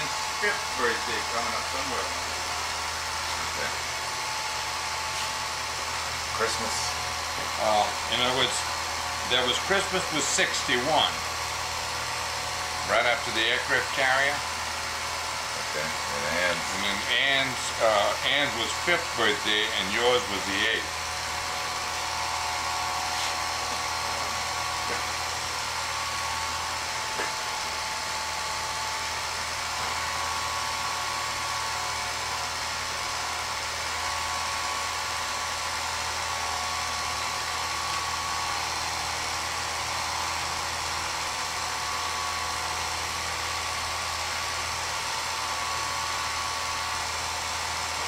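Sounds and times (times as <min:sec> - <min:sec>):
movie projector motor whirring: 0:00.0 - 0:48.0.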